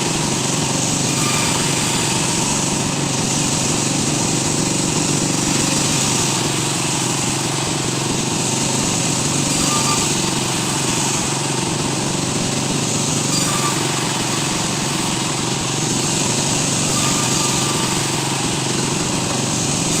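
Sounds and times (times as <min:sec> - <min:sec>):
woodworking machine running: 0:00.0 - 0:20.0.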